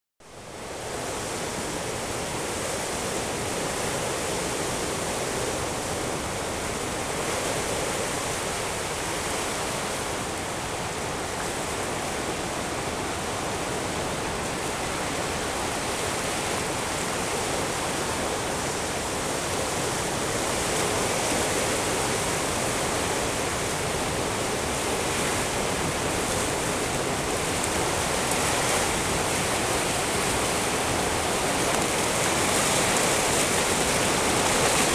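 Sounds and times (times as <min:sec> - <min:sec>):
ocean surf on rocky shore: 0:00.3 - 0:34.9.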